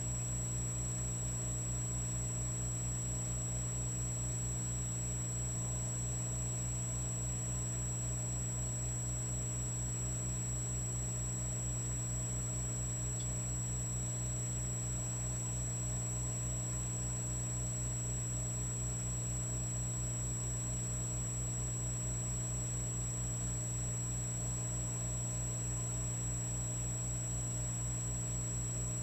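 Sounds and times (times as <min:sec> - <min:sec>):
electric fireplace hum: 0:00.0 - 0:29.0.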